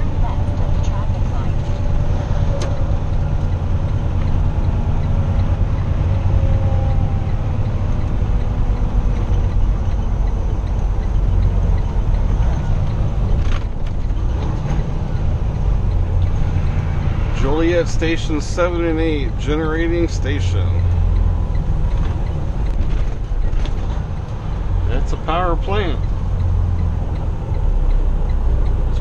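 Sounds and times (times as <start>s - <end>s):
road noise: 0.0s - 29.0s
truck engine drone: 0.0s - 29.0s.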